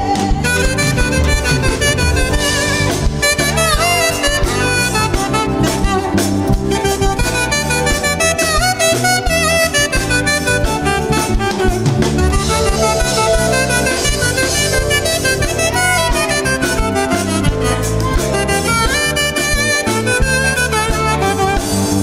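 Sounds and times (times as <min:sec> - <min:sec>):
drums: 0:00.0 - 0:22.0
keyboard: 0:00.0 - 0:22.0
saxophone melody: 0:00.0 - 0:22.0.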